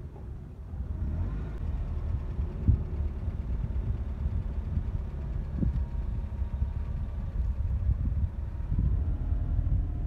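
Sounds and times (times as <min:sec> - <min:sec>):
car rumbling slowly: 0:00.0 - 0:10.0.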